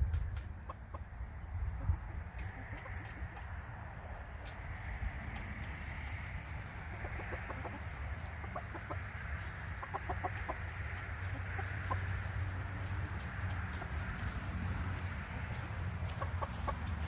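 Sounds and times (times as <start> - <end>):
steady low rumble: 0.0 - 17.0
chickens clucking: 0.1 - 17.0.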